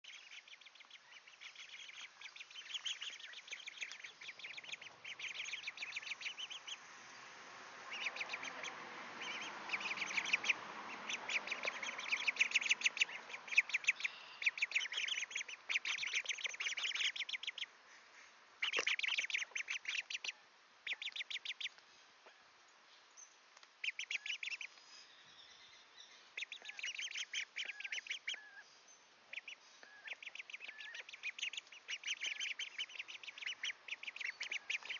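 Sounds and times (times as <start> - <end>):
ducklings peeping: 0.0 - 22.4, 23.7 - 34.9.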